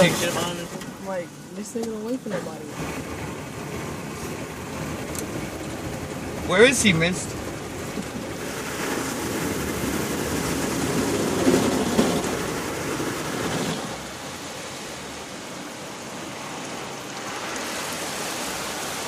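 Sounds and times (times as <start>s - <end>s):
car wash water jets spraying: 0.0s - 19.0s.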